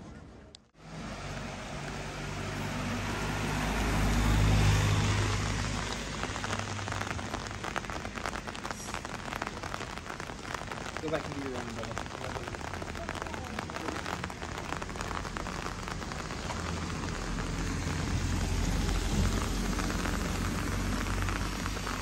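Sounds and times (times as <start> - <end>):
road noise: 0.0 - 22.0
vehicle engine hum: 0.1 - 9.4, 12.0 - 22.0.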